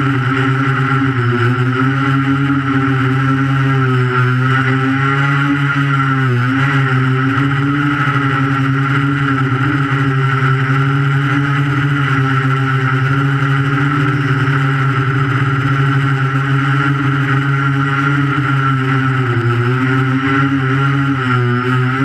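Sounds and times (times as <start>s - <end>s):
drone motors humming: 0.0s - 22.0s.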